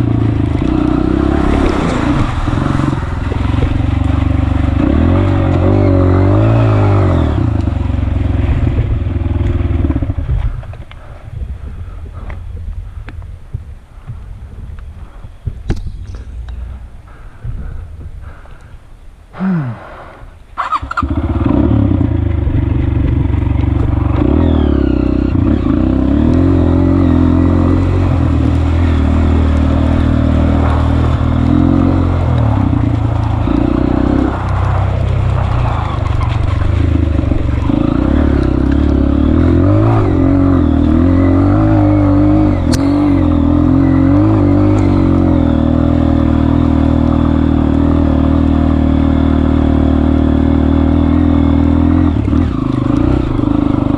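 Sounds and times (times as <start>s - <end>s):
motorcycle engine revving: 0.0s - 11.2s, 20.6s - 53.9s.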